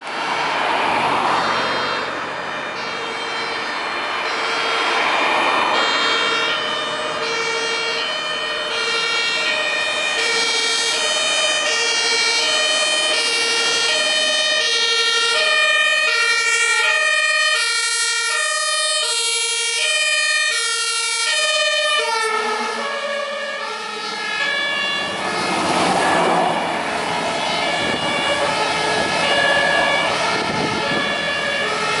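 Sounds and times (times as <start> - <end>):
heavy truck engine and tyres: 0.0 - 32.0
two-tone fire engine siren: 0.0 - 32.0.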